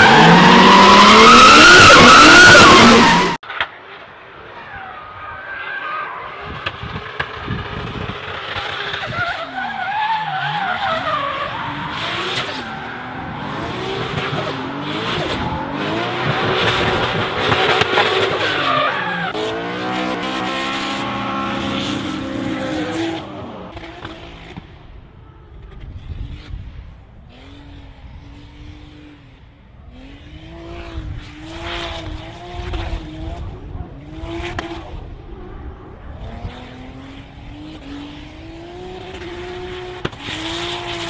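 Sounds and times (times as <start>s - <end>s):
car engine revving: 0.0s - 3.4s, 10.3s - 41.0s.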